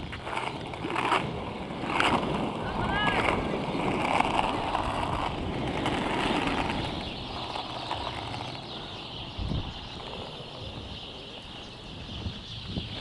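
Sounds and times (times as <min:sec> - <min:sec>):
skate wheels rolling on asphalt: 0:00.0 - 0:13.0
wind on microphone: 0:00.0 - 0:13.0.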